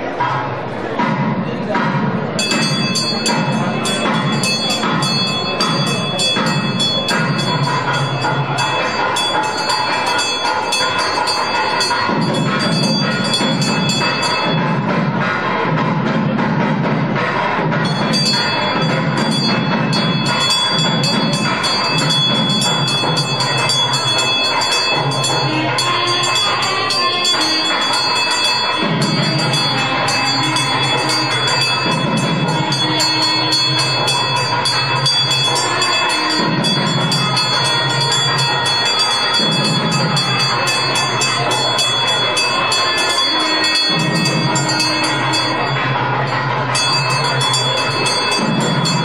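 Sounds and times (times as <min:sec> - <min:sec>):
low male voices chanting: 0:01.9 - 0:49.0
hand bell ringing fast: 0:02.4 - 0:15.5, 0:17.4 - 0:49.0.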